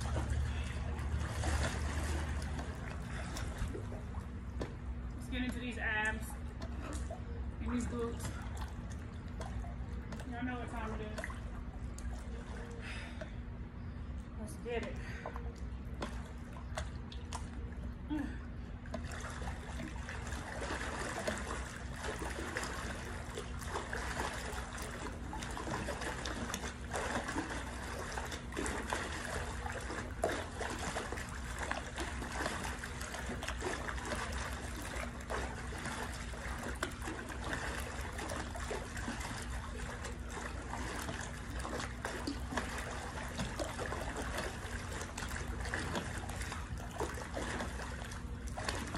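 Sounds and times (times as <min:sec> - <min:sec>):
water splashing in a pool: 0:00.0 - 0:48.9.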